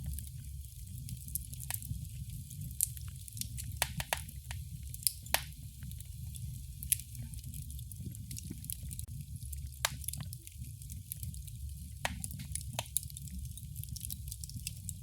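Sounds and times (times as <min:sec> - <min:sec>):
sharp fire pops: 0:00.0 - 0:15.0
wood fire crackling: 0:00.0 - 0:15.0.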